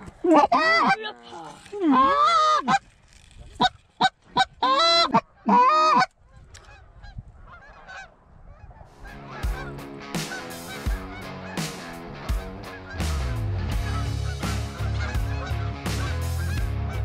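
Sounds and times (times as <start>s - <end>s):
chorus of goose honks: 0.2s - 1.1s, 1.9s - 2.8s, 3.6s - 17.0s
goose clucks: 0.2s - 1.1s, 3.6s - 17.0s
goose honking: 0.2s - 1.1s, 1.9s - 2.8s, 3.6s - 17.0s.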